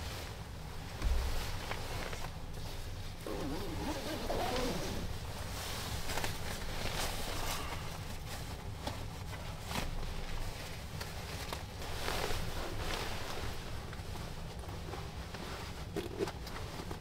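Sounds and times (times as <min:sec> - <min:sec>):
sleeping bag rustling: 0:00.0 - 0:17.0.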